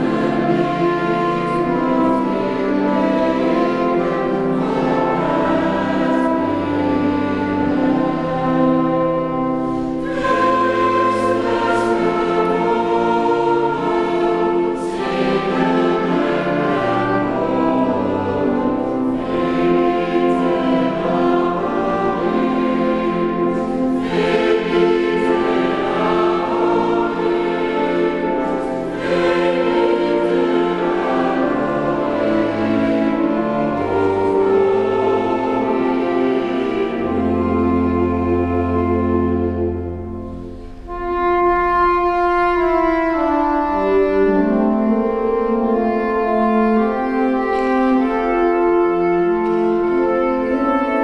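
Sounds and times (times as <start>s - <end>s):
choir singing held chords: 0.0s - 51.0s.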